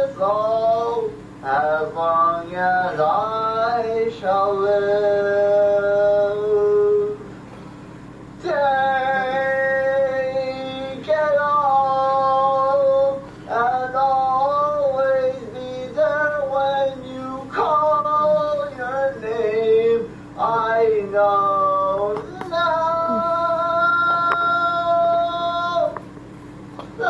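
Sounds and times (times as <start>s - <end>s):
young man singing unaccompanied: 0.0s - 7.2s, 8.4s - 26.1s.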